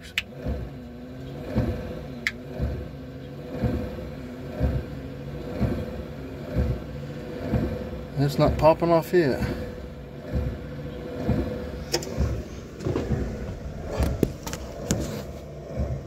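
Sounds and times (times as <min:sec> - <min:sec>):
wiper motor humming: 0:00.0 - 0:16.0.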